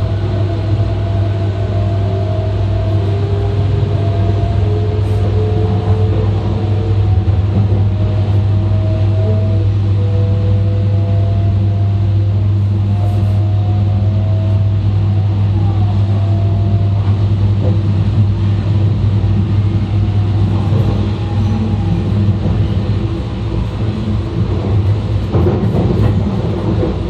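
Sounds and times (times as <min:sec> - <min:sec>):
faint whining tones: 0:00.0 - 0:27.0
train rumble and hum: 0:00.0 - 0:27.0.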